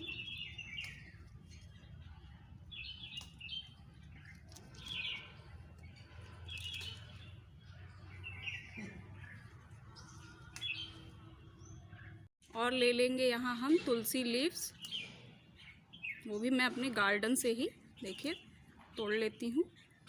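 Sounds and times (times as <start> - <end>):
small birds chirping: 0.0 - 12.3, 12.9 - 20.0.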